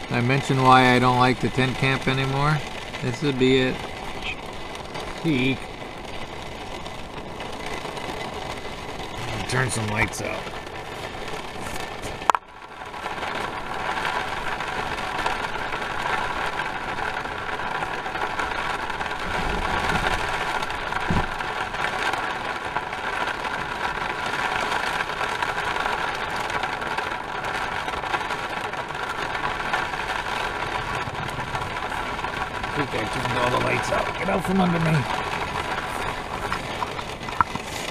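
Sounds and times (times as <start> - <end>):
rain beating on vehicle roof: 0.0 - 37.9
wind: 0.0 - 37.9.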